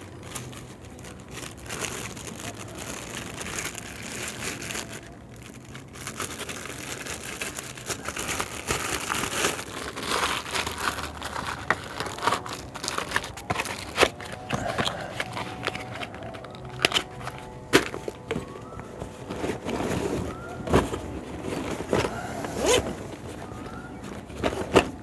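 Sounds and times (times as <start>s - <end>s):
wrapping crinkling and rustling: 0.0s - 25.0s.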